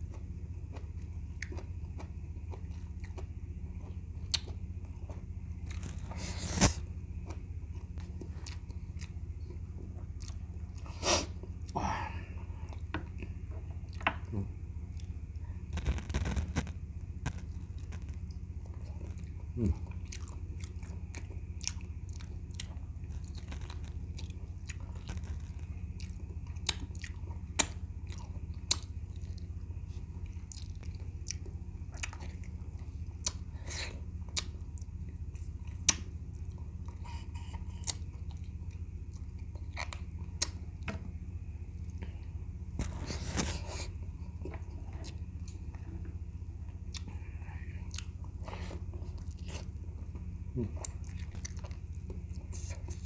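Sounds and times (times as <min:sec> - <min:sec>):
chewing and gnawing: 0:00.0 - 0:53.0
steady low hum: 0:00.0 - 0:53.0.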